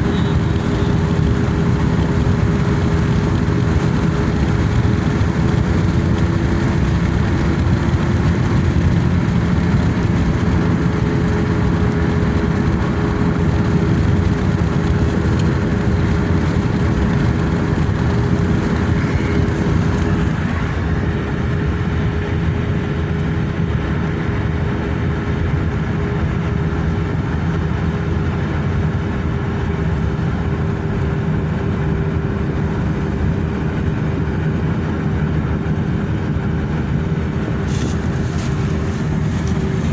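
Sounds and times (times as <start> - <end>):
car engine and road noise: 0.0 - 39.9
constant low hum: 0.0 - 39.9.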